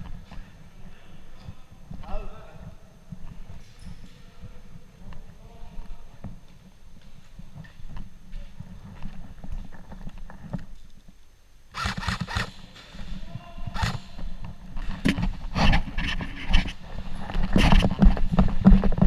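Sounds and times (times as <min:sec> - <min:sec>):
footsteps: 0:00.0 - 0:11.2, 0:12.0 - 0:19.0.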